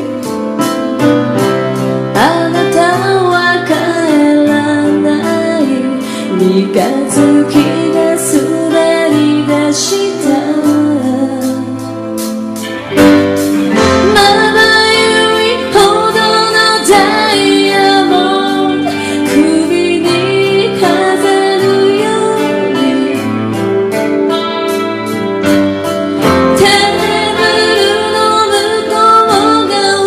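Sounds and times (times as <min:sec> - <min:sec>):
guitar and bass: 0:00.0 - 0:30.0
woman singing: 0:02.1 - 0:12.4, 0:13.7 - 0:24.0, 0:26.2 - 0:30.0.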